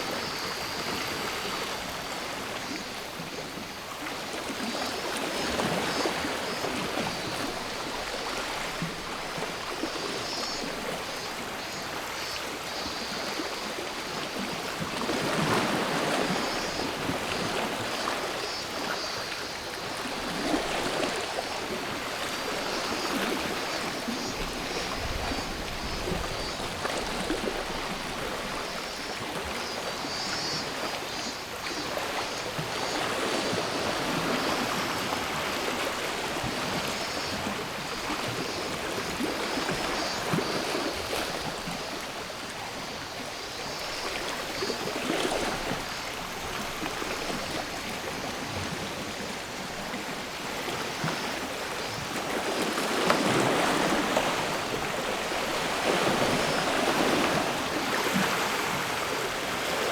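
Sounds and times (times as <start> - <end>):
cicadas buzzing: 0.0 - 14.8, 15.4 - 48.4, 49.2 - 59.9
sea waves washing on shore: 0.0 - 59.9.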